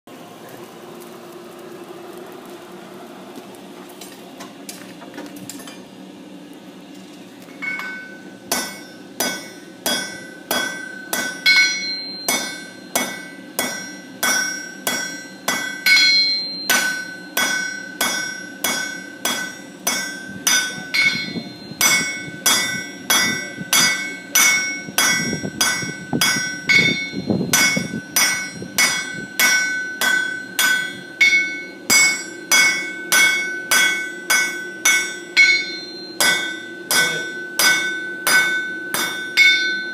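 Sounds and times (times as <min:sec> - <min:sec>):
hammer striking iron on anvil: 0:07.6 - 0:39.9.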